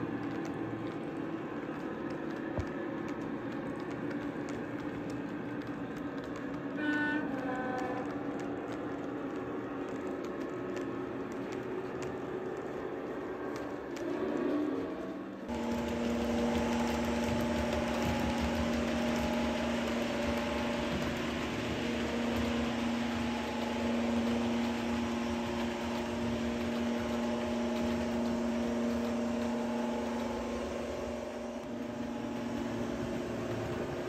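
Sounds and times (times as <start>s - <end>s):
low hum: 0.0s - 34.0s
model train engine drone: 0.0s - 34.0s.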